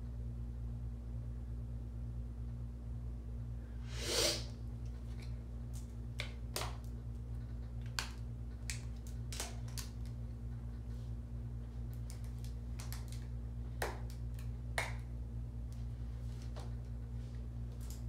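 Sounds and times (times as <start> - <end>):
steady low background hum: 0.0 - 18.0.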